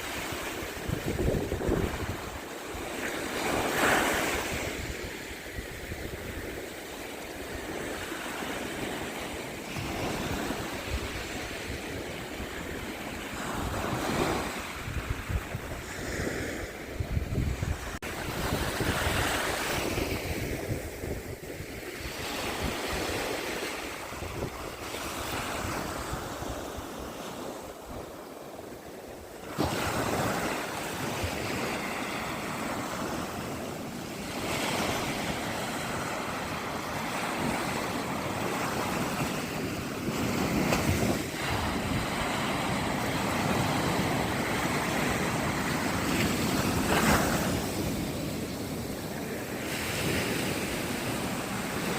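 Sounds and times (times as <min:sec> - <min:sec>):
surf washing onto shore: 0:00.0 - 0:51.9
wind buffeting microphone: 0:00.0 - 0:51.9.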